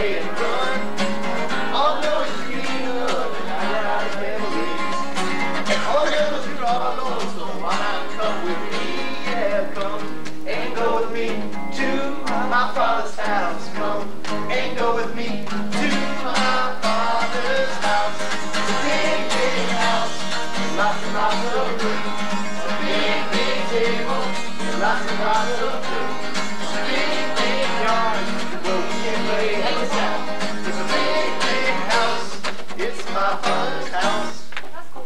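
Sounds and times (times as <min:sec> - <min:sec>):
group singing along: 0:00.0 - 0:34.4
acoustic guitar strumming: 0:00.0 - 0:34.5.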